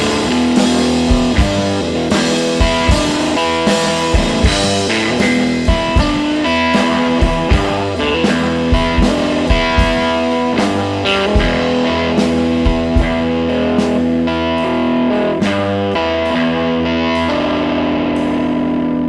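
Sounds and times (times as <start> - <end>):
electric guitar: 0.0 - 19.0
steady drum beat: 0.0 - 19.0.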